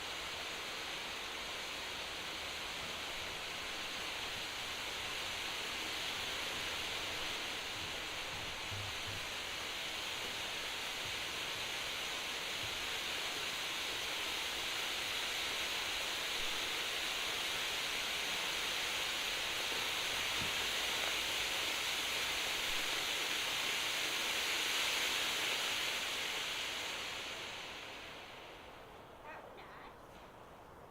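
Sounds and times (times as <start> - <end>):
firework fountain hissing sparks: 0.0 - 30.9.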